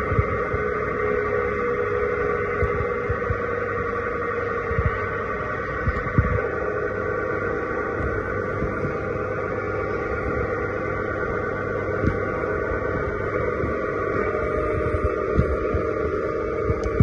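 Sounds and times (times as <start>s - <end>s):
electric motor hum: 0.0s - 17.0s.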